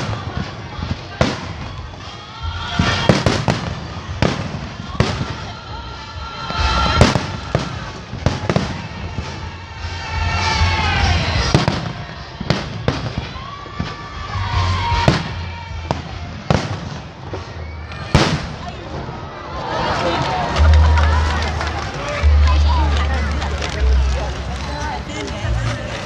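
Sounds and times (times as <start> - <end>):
music with singing: 0.0 - 19.0, 19.8 - 26.0
fireworks bangs: 0.0 - 26.0.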